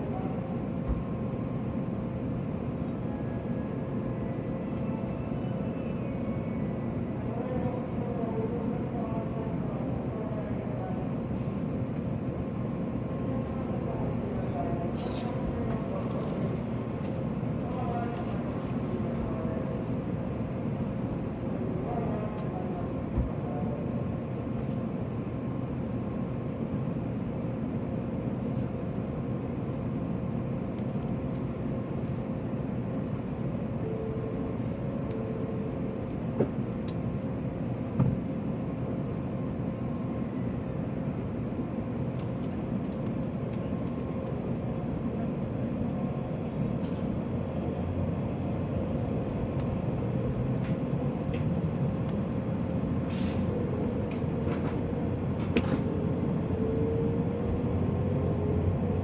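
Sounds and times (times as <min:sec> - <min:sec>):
train cabin hum: 0:00.0 - 0:59.0.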